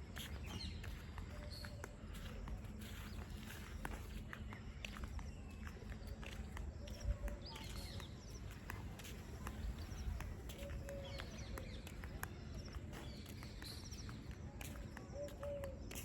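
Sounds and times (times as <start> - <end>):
low steady bird notes: 0.0 - 16.0.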